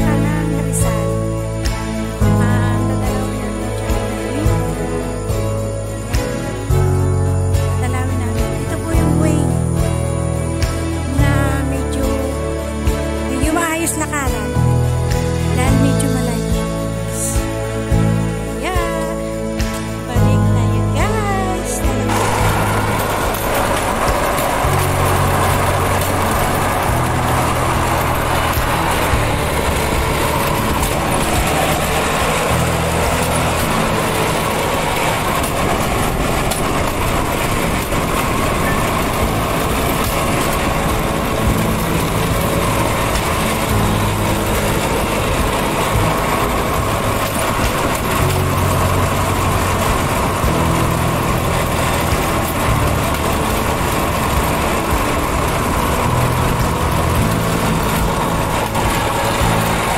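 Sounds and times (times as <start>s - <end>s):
rail trolley running on tracks: 0.0s - 59.9s.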